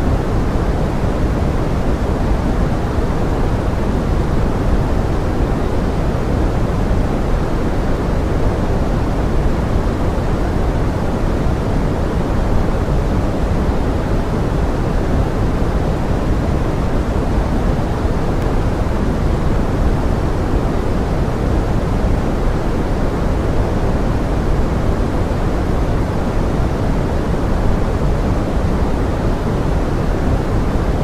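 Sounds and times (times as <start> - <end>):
pink noise hiss: 0.0 - 31.0.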